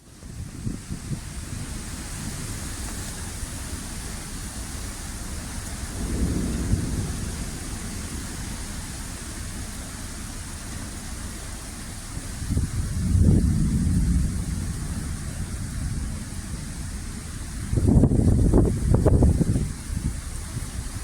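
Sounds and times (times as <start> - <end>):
heavy rain: 0.0 - 21.0
strong wind: 0.0 - 21.0
low thunder rumble: 0.2 - 21.0.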